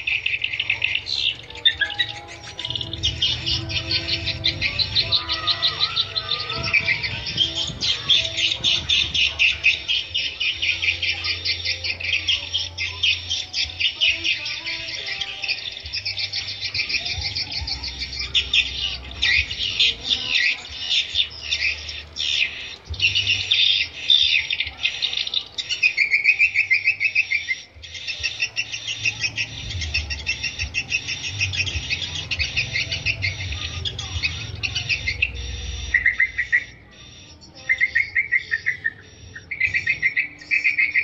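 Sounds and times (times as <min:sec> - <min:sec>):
low buzzing trills: 0:00.0 - 0:41.0
swiftlets twittering: 0:00.0 - 0:41.0.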